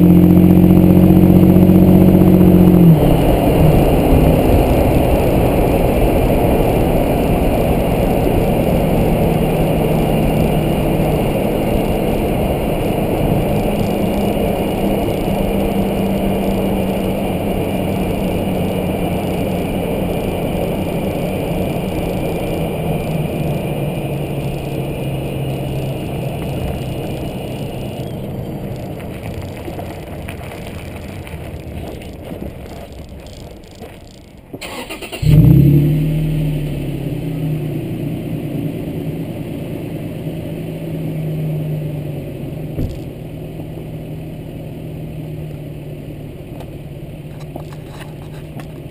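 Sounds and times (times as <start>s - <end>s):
truck road and engine noise: 0.0s - 48.9s.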